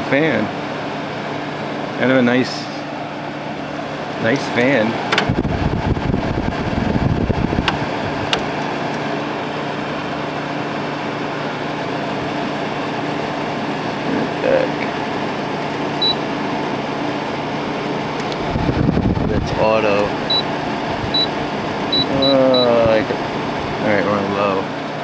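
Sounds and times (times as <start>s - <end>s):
air conditioner running: 0.0s - 25.0s.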